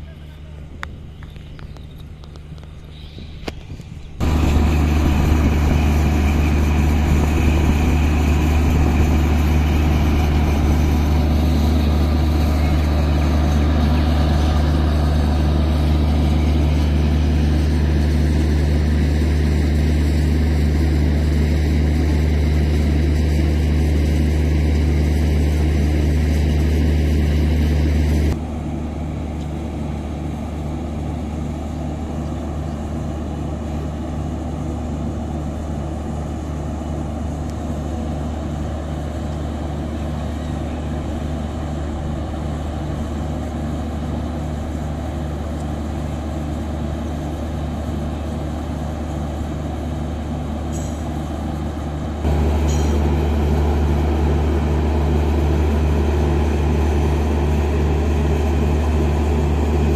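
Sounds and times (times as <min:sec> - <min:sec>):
cooling fan rush: 0:00.0 - 0:59.9
diesel generator droning: 0:00.0 - 0:59.9.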